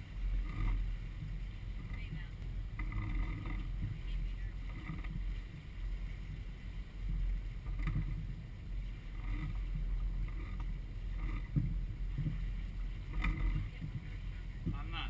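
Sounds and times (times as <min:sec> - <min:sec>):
boat engines droning: 0:00.0 - 0:15.0
wind buffeting microphone: 0:00.0 - 0:15.0.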